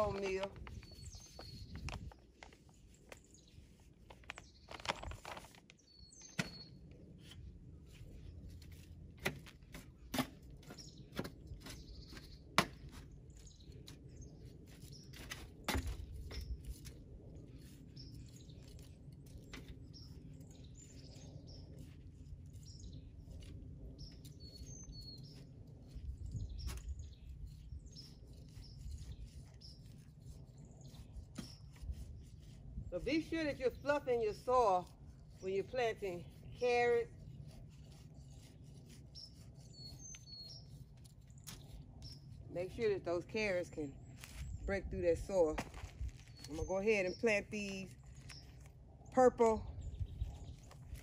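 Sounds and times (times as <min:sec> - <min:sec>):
small birds chirping: 0:00.0 - 0:08.8, 0:09.6 - 0:51.0
soil rustling: 0:00.0 - 0:51.0.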